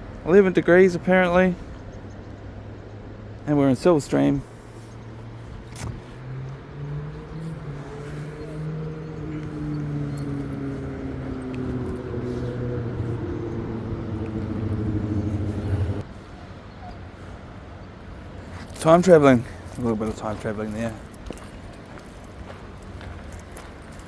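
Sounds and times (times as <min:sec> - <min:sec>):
vehicle engine running: 0:01.1 - 0:24.0.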